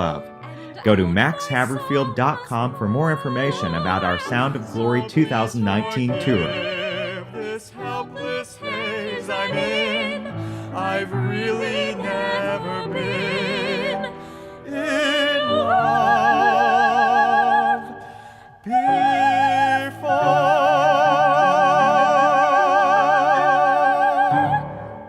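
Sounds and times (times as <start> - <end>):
person singing a ballad: 0.0 - 25.0
sustained instrumental accompaniment: 0.0 - 25.0.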